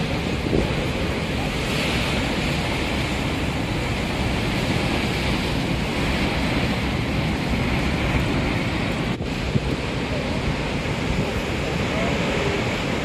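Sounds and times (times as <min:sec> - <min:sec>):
ocean surf breaking on rocks: 0:00.0 - 0:13.0
wind on microphone: 0:00.0 - 0:13.0.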